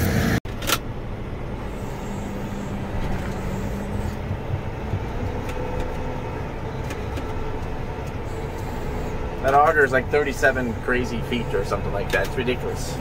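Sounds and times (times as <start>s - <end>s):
low hum: 0.0s - 13.0s
tractor diesel engine running: 0.0s - 13.0s.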